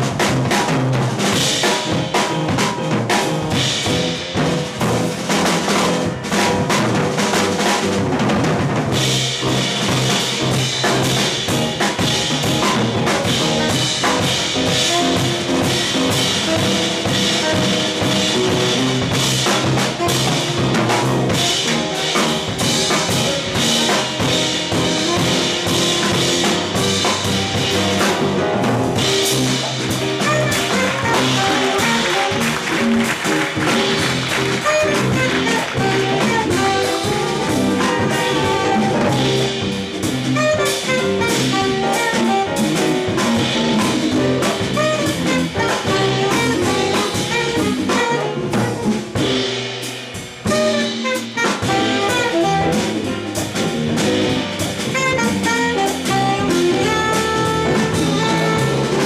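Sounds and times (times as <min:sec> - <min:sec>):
drum kit snare and bass drum: 0:00.0 - 0:59.0
live jazz band: 0:00.0 - 0:59.0.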